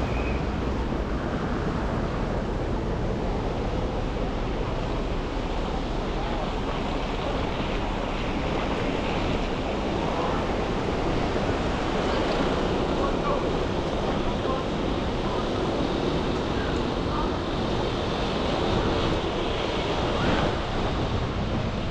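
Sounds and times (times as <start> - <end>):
hum of traffic: 0.0 - 21.9
tyres on the road: 0.0 - 21.9
wind on microphone: 0.0 - 21.9.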